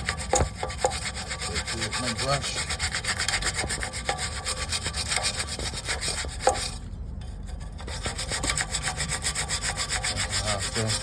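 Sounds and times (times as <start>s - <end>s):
brush scrubbing fan fins: 0.0s - 11.0s.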